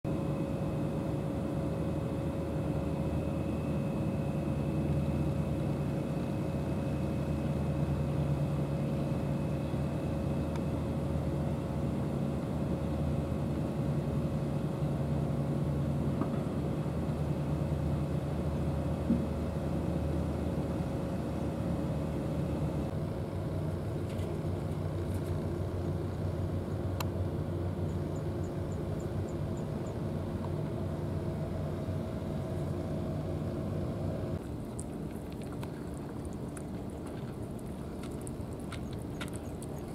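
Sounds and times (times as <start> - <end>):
faint high whine: 0.1 - 34.9
low mechanical drone: 0.1 - 39.9.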